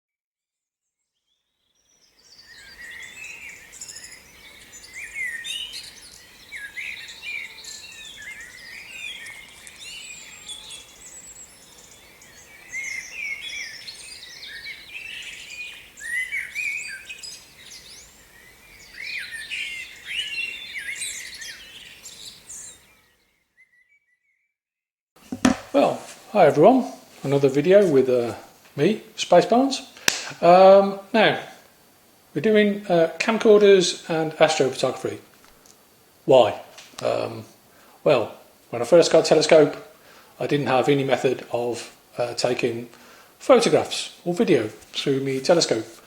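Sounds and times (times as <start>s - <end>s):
birds singing: 1.2s - 24.5s, 25.8s - 46.0s.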